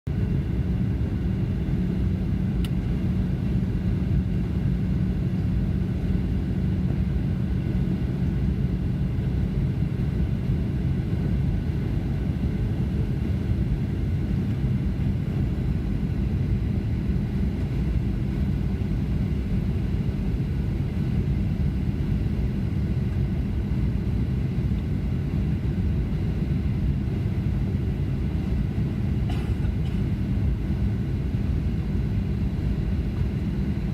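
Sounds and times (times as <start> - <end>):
airliner cabin engine drone: 0.1 - 33.9.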